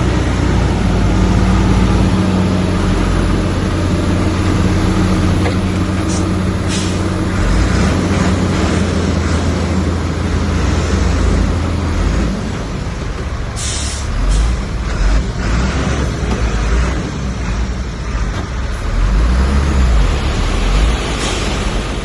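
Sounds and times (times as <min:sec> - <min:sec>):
diesel machinery rumbling: 0:00.0 - 0:22.0.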